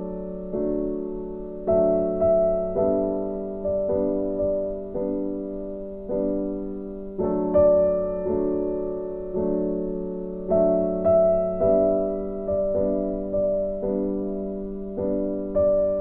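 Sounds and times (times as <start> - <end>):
slow gentle piano chords: 0.0 - 16.0.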